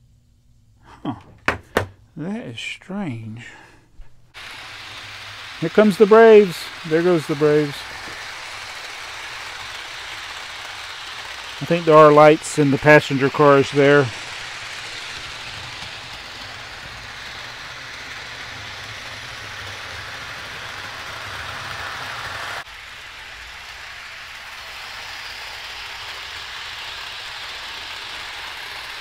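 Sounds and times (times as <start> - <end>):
model train running on track: 4.3 - 29.0.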